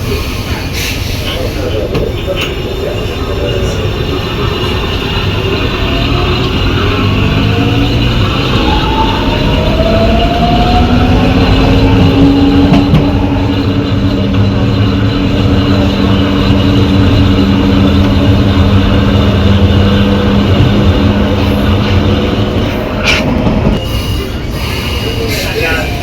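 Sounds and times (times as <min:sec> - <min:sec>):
train motor whine: 0:03.5 - 0:26.0.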